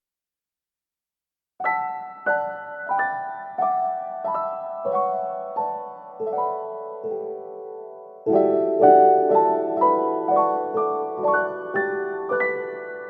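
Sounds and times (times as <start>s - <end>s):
gentle piano music: 1.6s - 13.0s.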